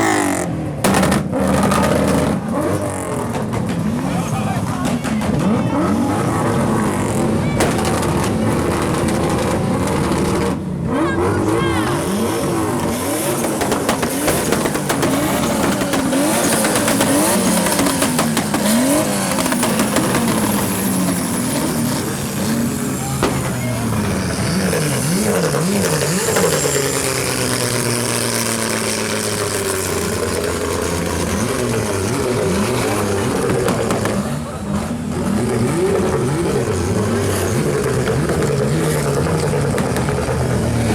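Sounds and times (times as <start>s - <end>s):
drift car engines revving: 0.0s - 40.9s
exhaust pops and bangs: 0.8s - 10.6s, 12.6s - 40.9s.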